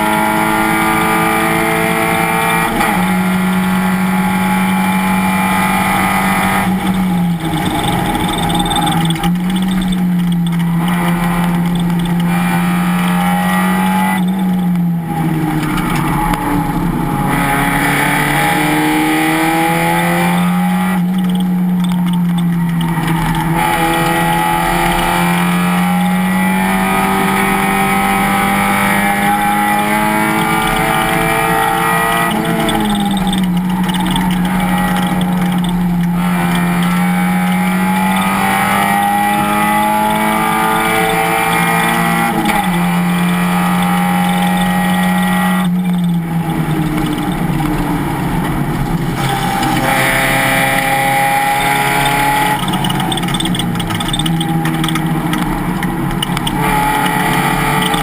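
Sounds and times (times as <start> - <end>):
race car engine at high revs: 0.0 - 58.0.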